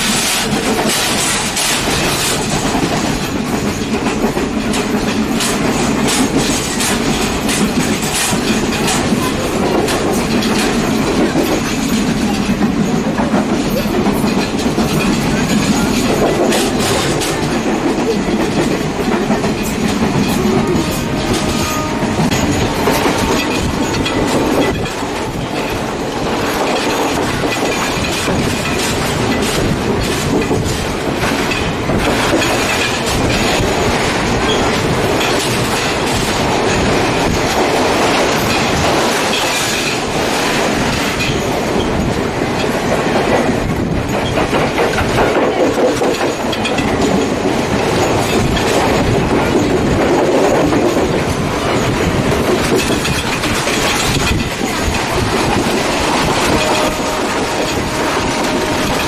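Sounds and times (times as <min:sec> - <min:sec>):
train rumble: 0:00.0 - 0:59.0
wheels clattering over rail joints: 0:00.0 - 0:59.0.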